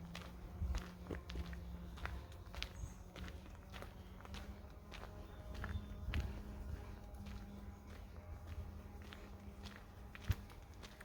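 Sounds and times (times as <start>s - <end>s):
faint low hum: 0.0s - 11.0s
footsteps on forest trail: 0.0s - 11.0s.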